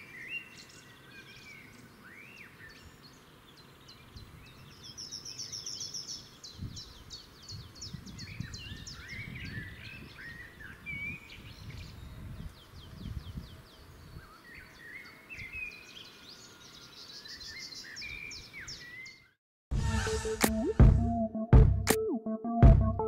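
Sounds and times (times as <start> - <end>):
songbirds singing and calling: 0.0 - 19.4.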